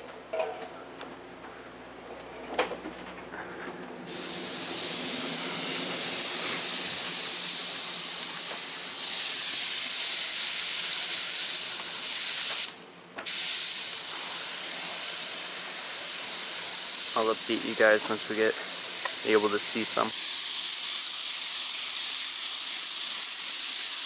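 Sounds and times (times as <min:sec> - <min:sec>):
paint spray gun hissing: 0:04.1 - 0:24.0.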